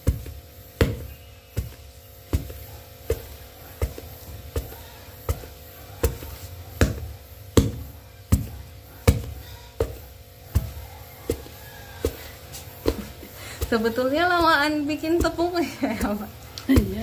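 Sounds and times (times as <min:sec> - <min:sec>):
pestle pounding dough in mortar: 0:00.0 - 0:17.0.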